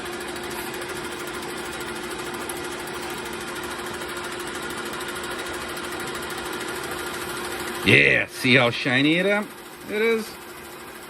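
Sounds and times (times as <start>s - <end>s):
metal lathe humming and whining: 0.0s - 11.0s.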